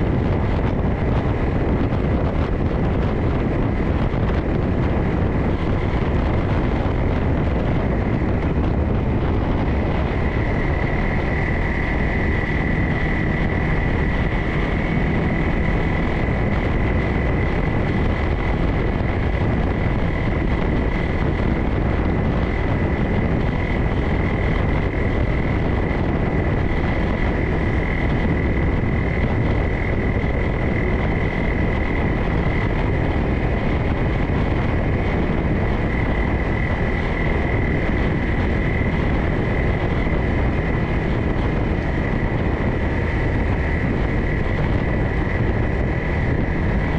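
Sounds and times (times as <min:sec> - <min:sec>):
high-pitched whine: 0:00.0 - 0:46.9
vehicle engine and tyre rumble: 0:00.0 - 0:46.9.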